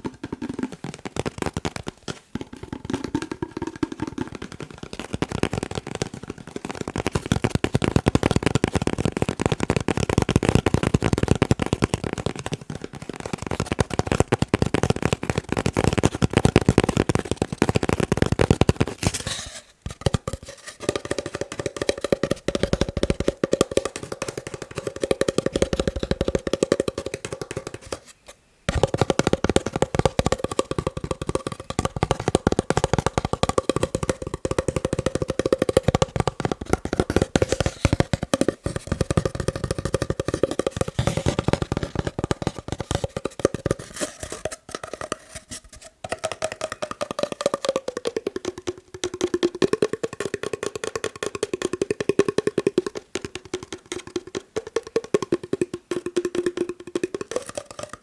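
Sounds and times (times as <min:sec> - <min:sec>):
fast tapping on paper roll: 0:00.0 - 0:58.0.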